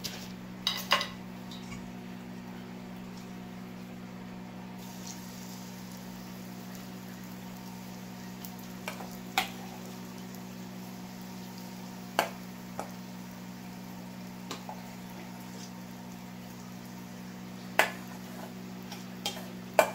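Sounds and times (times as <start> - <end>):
hot oil frying: 0.0 - 19.9.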